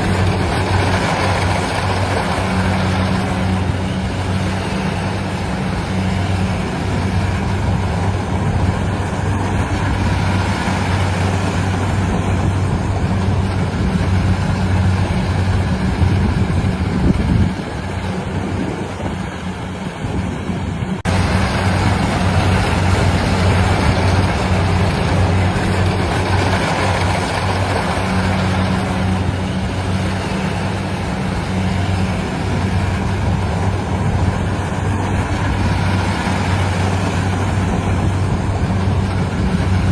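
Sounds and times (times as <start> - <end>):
harvesting machine engine humming: 0.0 - 39.9.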